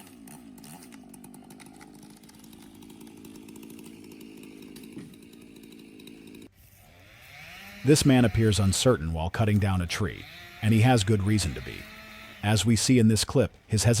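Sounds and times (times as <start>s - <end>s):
two-stroke chainsaw engine running: 0.0s - 12.7s.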